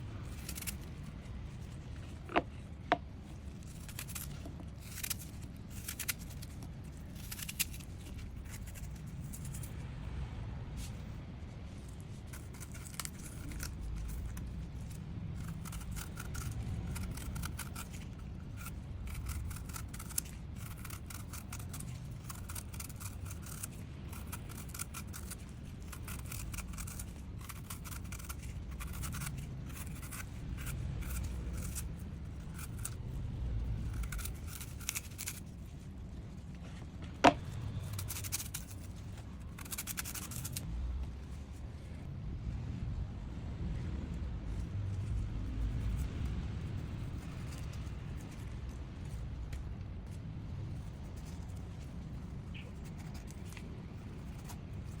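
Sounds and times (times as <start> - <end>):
knife cutting and peeling fruit: 0.0 - 10.1, 10.7 - 42.1, 44.1 - 55.0.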